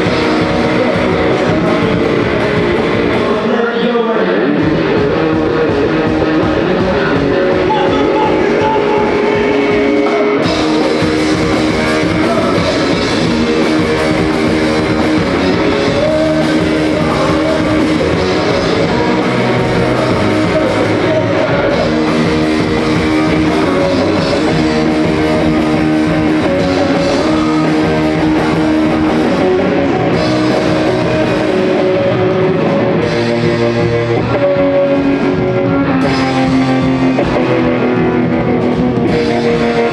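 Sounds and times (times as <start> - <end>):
live rock band playing: 0.0 - 3.7, 4.5 - 39.9.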